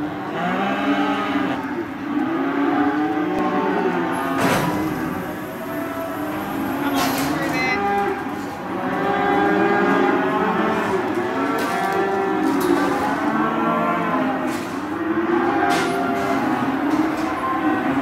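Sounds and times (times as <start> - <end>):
cattle mooing: 0.2 - 18.0.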